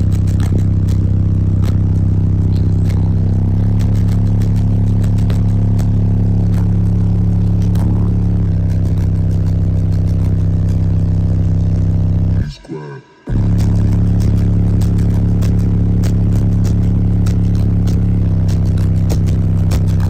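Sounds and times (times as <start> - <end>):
bass-heavy music from subwoofer: 0.0 - 20.0.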